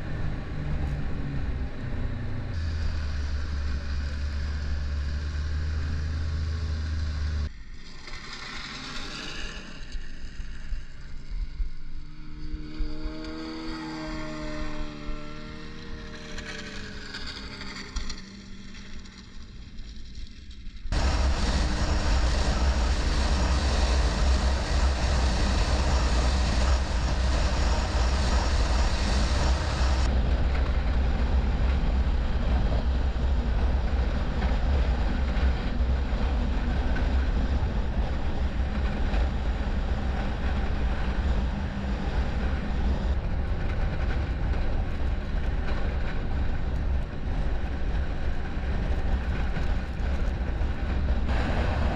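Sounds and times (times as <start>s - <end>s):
distant snowmobile engine passing: 0.0s - 7.5s, 8.1s - 19.9s, 20.9s - 48.3s
snowmobile engine running on board: 0.0s - 7.5s, 11.2s - 19.3s, 20.9s - 51.9s.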